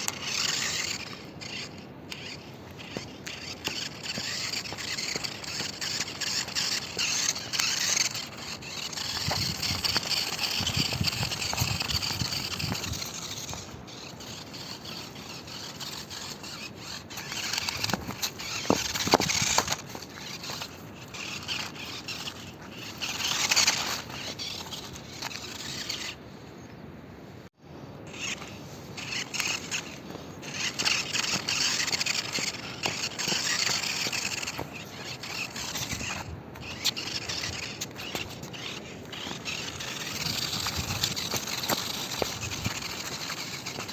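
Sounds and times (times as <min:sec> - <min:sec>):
toy truck motor whining: 0:00.0 - 0:26.2, 0:28.1 - 0:43.9
tyres scraping rough ground: 0:00.0 - 0:26.7, 0:28.1 - 0:43.9.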